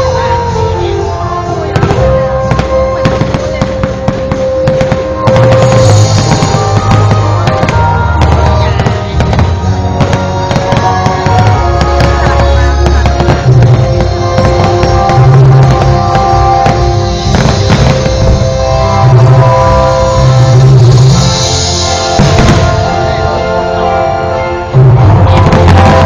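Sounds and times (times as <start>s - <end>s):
fireworks exploding: 0.0s - 24.4s, 25.0s - 26.0s
loud music with heavy bass: 0.0s - 26.0s.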